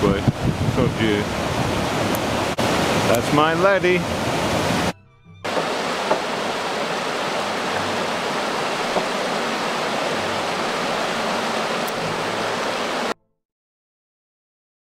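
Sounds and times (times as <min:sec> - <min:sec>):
river rushing over rocks: 0:00.4 - 0:04.9, 0:05.5 - 0:13.2.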